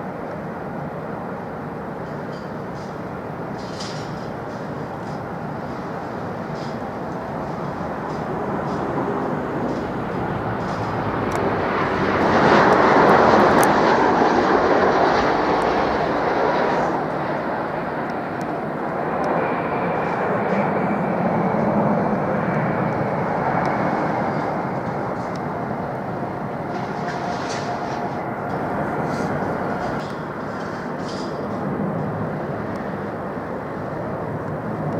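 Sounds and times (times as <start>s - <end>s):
jet airliner passing: 0.0s - 34.9s
steady high whine: 4.4s - 34.6s.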